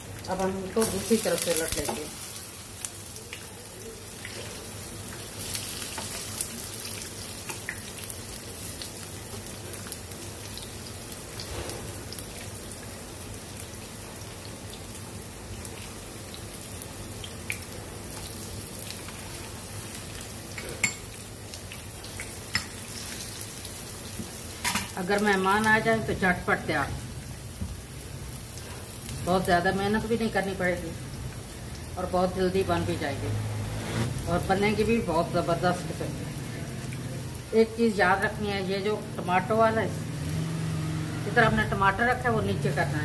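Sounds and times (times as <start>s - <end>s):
food sizzling in oil: 0.0s - 43.0s.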